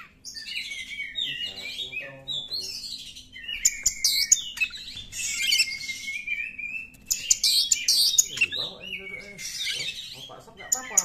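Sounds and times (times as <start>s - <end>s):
bird singing whistled phrases: 0.0s - 11.0s.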